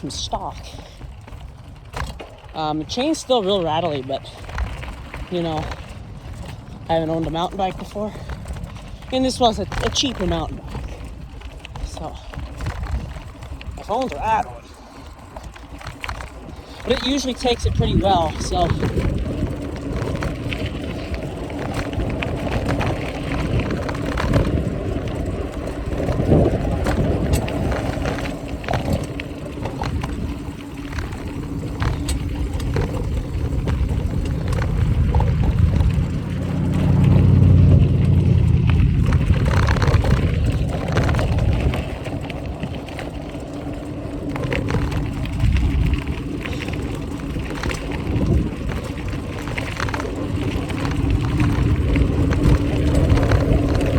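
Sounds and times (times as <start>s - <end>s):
rumble of wind and tyres: 0.0s - 53.9s
rattling chain clicks: 0.1s - 53.9s.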